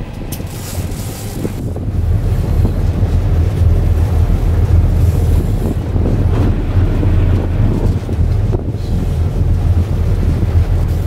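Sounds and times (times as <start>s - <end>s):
motorboat engine drone: 0.0s - 11.0s
water rushing past hull: 0.0s - 11.0s
wind buffeting microphone: 0.0s - 11.0s.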